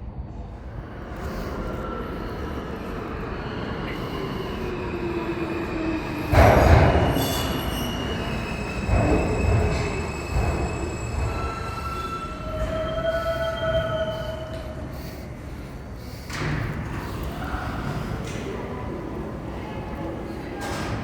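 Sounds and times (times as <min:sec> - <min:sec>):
loud rush of rail noise: 0:00.0 - 0:21.0
subway wheels squealing on rails: 0:00.4 - 0:21.0.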